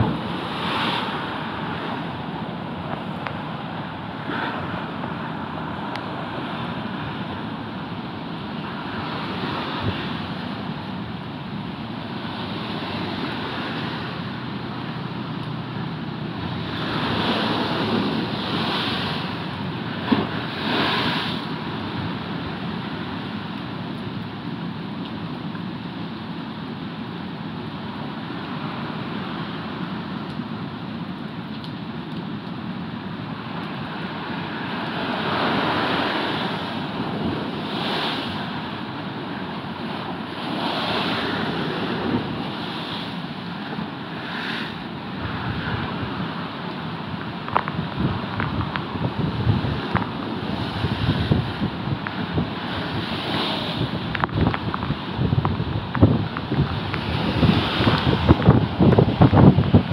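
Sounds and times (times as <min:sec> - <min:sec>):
storm surf breaking: 0:00.0 - 0:59.9.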